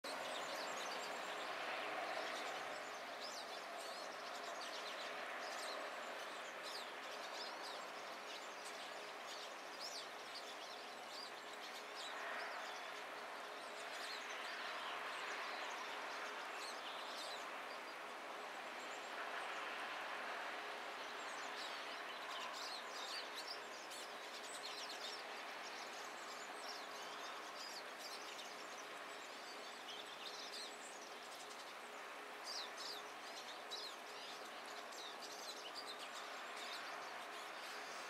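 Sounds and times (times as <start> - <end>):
birds twittering high chirps: 0.0 - 19.8, 20.7 - 38.0
road traffic hiss: 0.1 - 38.0.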